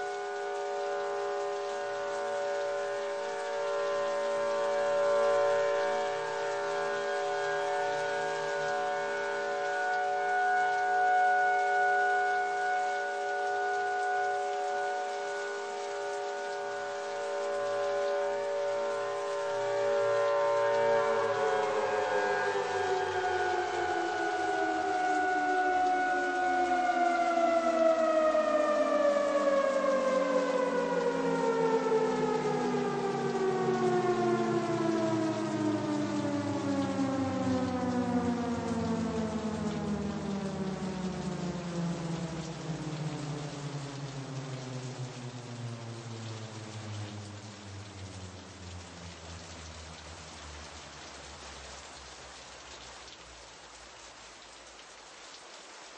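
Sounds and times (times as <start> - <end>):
siren winding down: 0.0 - 51.4
rain-like hiss: 0.0 - 55.9.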